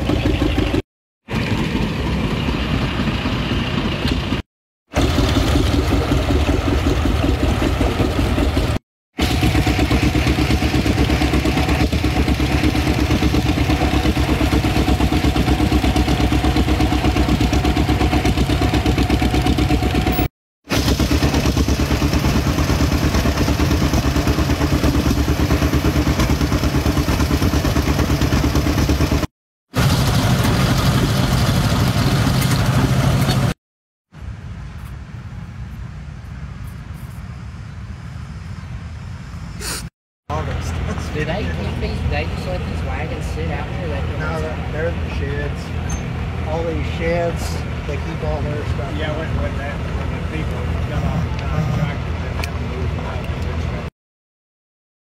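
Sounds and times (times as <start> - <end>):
tractor engine running: 0.0 - 33.6, 40.3 - 53.9.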